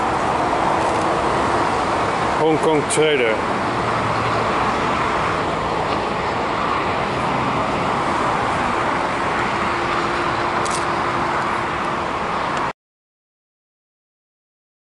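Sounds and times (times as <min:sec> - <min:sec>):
jet engine roar: 0:00.0 - 0:12.7.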